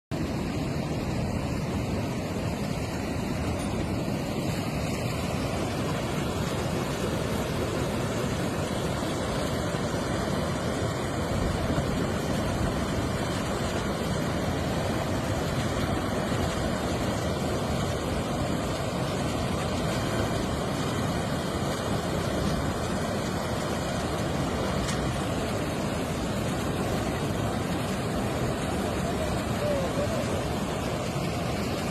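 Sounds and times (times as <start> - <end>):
floodwater rushing: 0.2 - 31.9.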